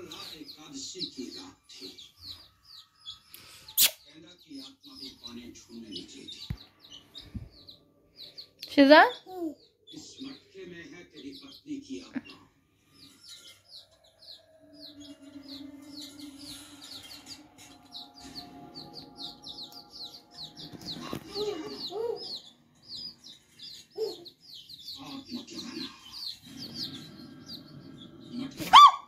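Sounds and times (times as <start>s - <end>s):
baby chicks peeping: 0.0s - 29.0s.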